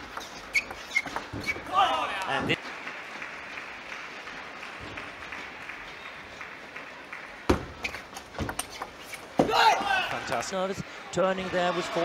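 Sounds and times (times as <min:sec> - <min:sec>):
arena crowd noise: 0:01.6 - 0:12.0.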